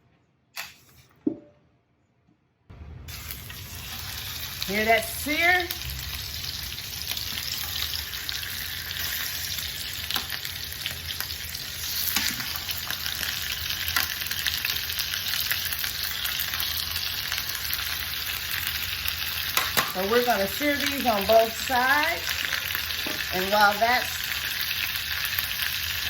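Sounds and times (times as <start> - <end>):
meat sizzling in a skillet: 3.1 - 26.0.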